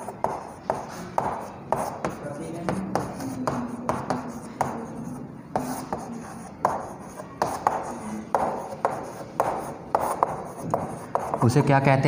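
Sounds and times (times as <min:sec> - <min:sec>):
chalk tapping and scratching: 0:00.0 - 0:11.7.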